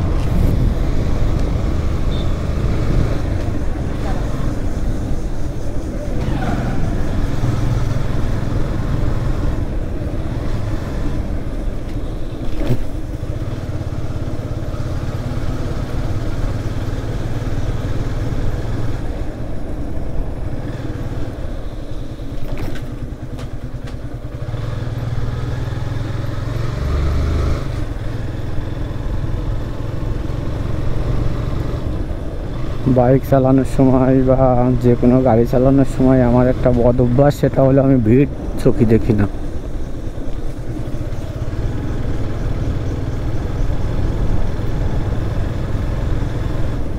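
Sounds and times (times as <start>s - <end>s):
road noise: 0.0s - 46.9s.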